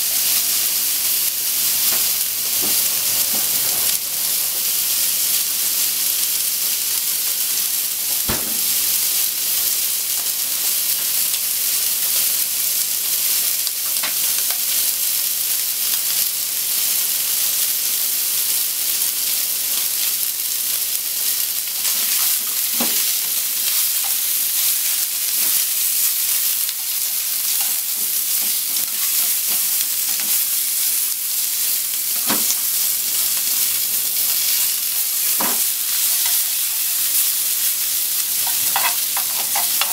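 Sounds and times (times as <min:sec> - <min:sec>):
pork sizzling in a frying pan: 0:00.0 - 0:39.9.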